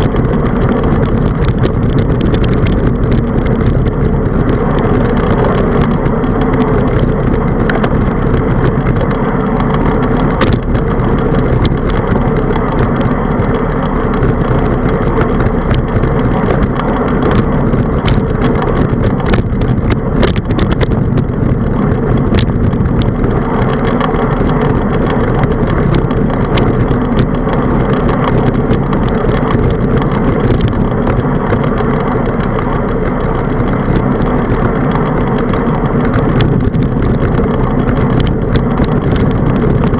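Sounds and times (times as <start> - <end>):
bicycle clicks and rattles: 0.0 - 39.9
wind and road noise: 0.0 - 39.9.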